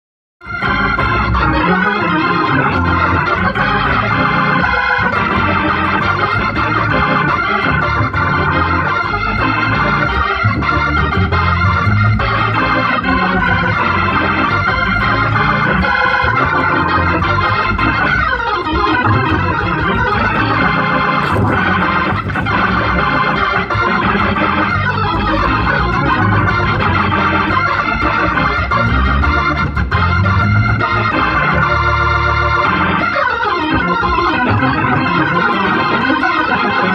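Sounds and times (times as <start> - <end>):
gospel organ chords: 0.4 - 36.9.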